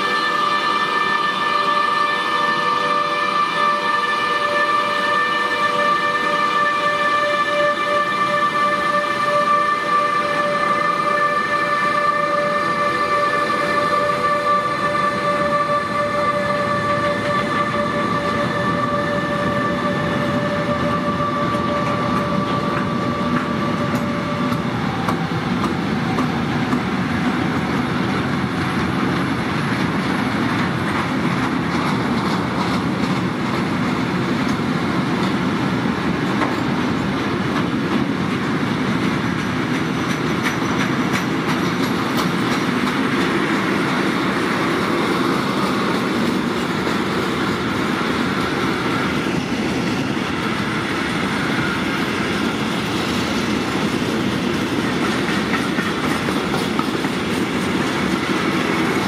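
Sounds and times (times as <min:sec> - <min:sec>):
electric locomotive whine: 0:00.0 - 0:59.0.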